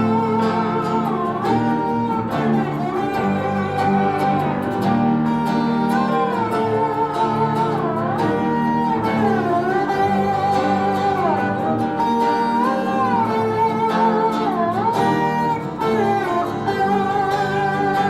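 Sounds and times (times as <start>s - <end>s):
guitar accompaniment: 0.0s - 18.0s
sliding lead melody: 0.0s - 18.0s.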